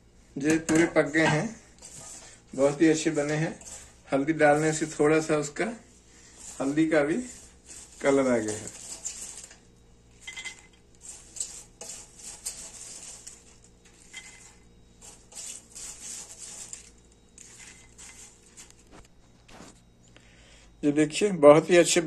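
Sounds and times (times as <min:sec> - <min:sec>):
popcorn rustling in a pot: 0:00.3 - 0:20.0.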